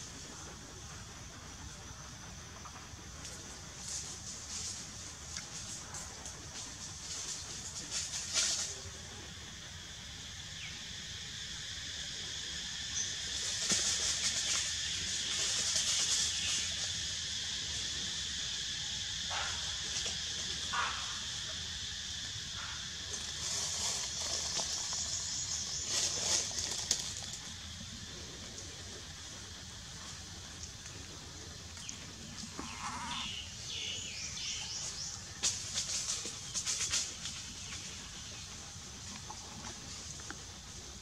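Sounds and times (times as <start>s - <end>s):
steady high hiss: 0.0s - 41.0s.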